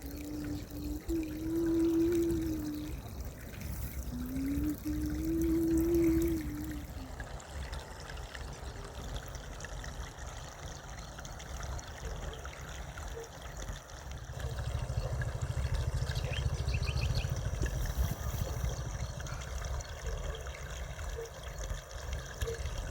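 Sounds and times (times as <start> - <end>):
stream trickling: 0.0 - 22.9.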